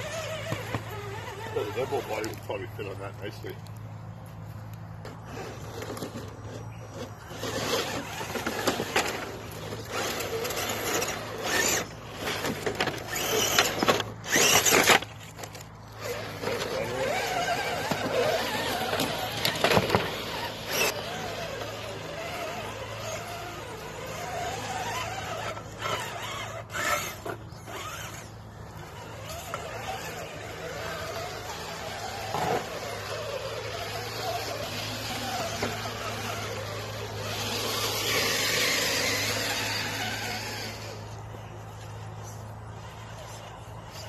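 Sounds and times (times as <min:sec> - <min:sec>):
tyres scraping and crunching on rock: 0:00.0 - 0:02.8, 0:03.5 - 0:44.0
electric motors whining: 0:00.0 - 0:44.0.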